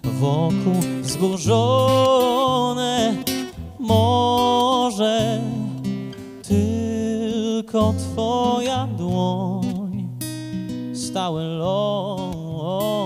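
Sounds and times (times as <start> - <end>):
person singing with vibrato: 0.0 - 10.2, 11.0 - 13.0
guitar accompaniment: 0.0 - 13.0.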